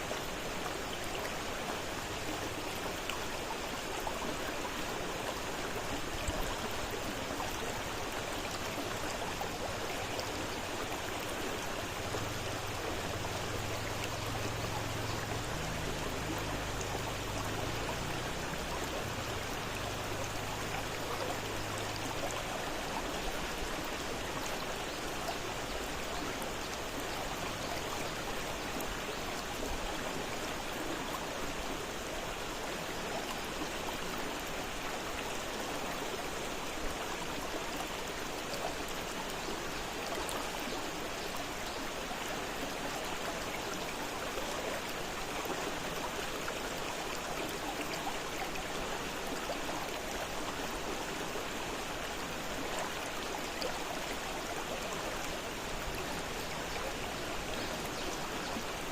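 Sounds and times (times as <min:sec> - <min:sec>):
fast river rushing: 0:00.1 - 0:58.9.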